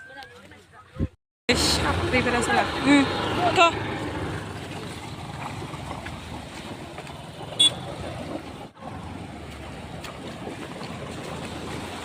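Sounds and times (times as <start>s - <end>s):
moving vehicle rumble: 0.4s - 12.0s.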